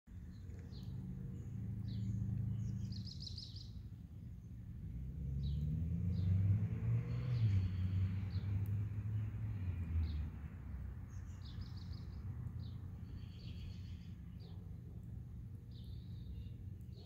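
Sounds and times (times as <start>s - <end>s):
low engine-like rumble: 0.1s - 17.0s
small birds chirping: 0.1s - 17.0s.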